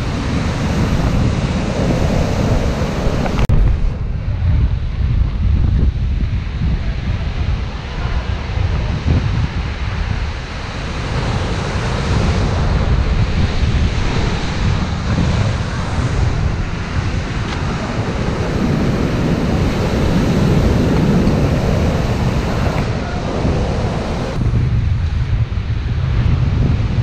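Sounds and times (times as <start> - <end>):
heavy surf breaking: 0.0 - 5.0, 6.3 - 27.0
wind buffeting microphone: 0.0 - 27.0.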